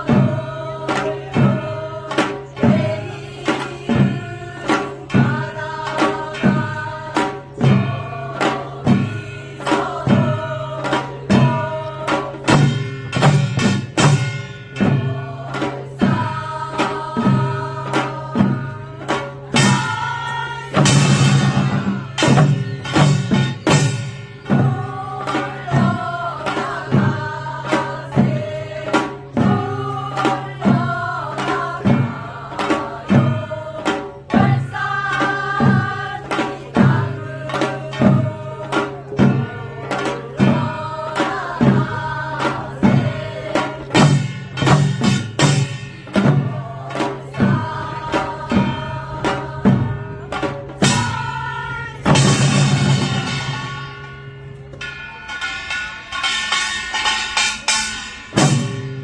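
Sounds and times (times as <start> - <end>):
drum beat: 0.0 - 54.0, 55.4 - 59.0.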